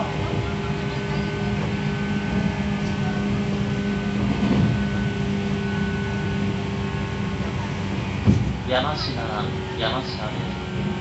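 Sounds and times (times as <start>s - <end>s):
traction motor hum: 0.0s - 11.0s
train wheels rumbling on rails: 0.0s - 11.0s.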